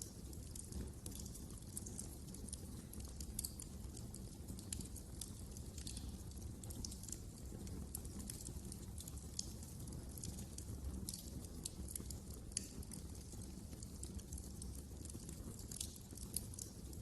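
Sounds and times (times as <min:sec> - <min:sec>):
low rumble of fire: 0:00.0 - 0:17.0
wood fire snaps and pops: 0:00.0 - 0:17.0.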